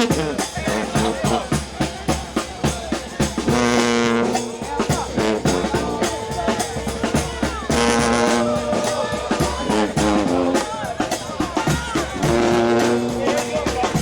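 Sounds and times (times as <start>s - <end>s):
brass band playing: 0.0s - 14.0s
steady drum beat: 0.0s - 14.0s.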